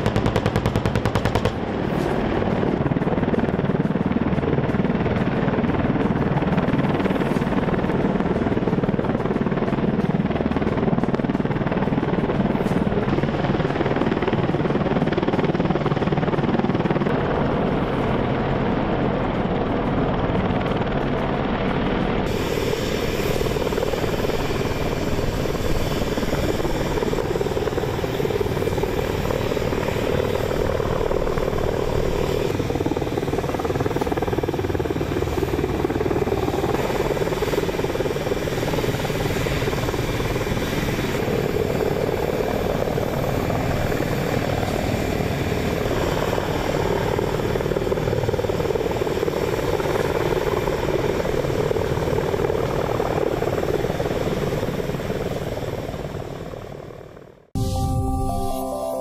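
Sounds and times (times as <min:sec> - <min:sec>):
helicopter rotor and engine noise: 0:00.0 - 0:57.6.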